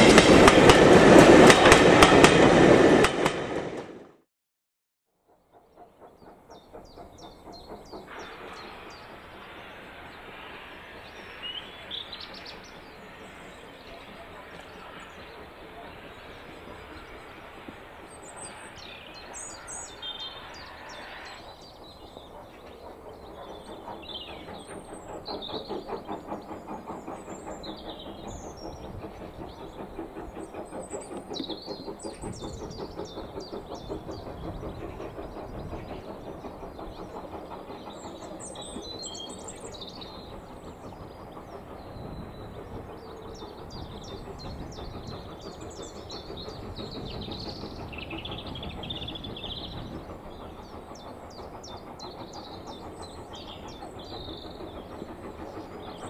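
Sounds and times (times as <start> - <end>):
steam locomotive exhaust beats: 5.3 - 56.0
birds chirping: 5.7 - 56.0.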